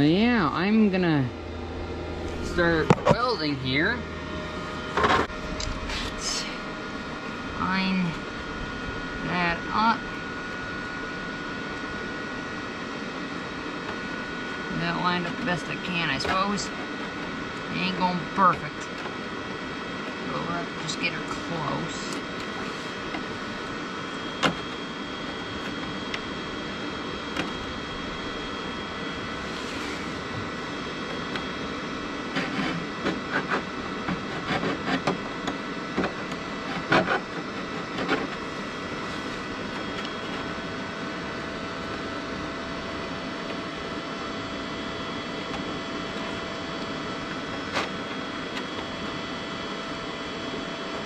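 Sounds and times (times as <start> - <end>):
welder humming: 0.0 - 51.0.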